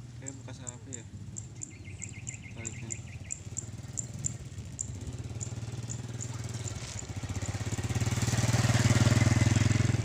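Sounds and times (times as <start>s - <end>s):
small motorbike engine running: 0.0s - 10.0s.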